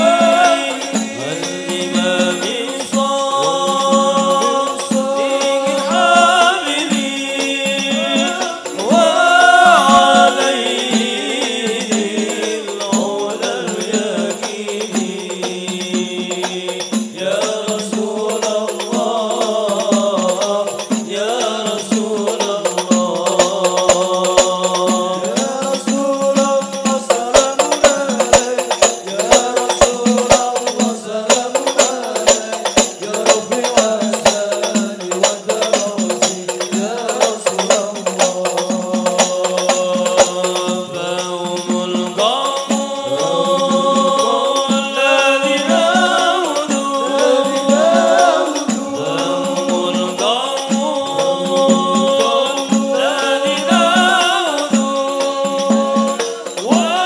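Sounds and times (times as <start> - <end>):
hand percussion: 0.0 - 57.0
men chanting through microphones: 0.0 - 57.0.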